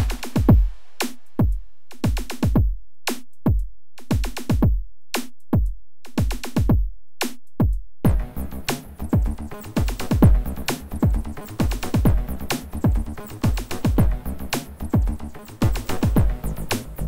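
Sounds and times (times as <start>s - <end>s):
deep kick drum: 0.0s - 2.8s, 3.4s - 4.9s, 5.5s - 7.0s, 7.6s - 16.6s
drum machine beat: 0.0s - 17.0s.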